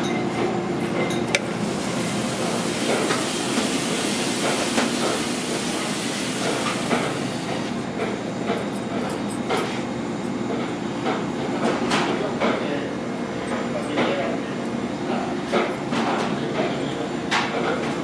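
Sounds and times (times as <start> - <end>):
ventilation hum: 0.0 - 18.0.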